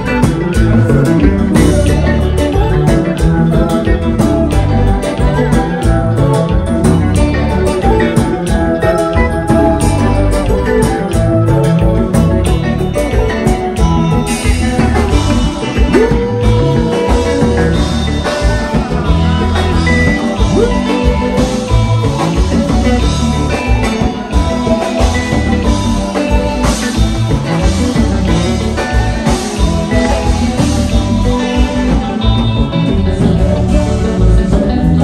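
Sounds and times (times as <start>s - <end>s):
live band music: 0.0s - 35.0s.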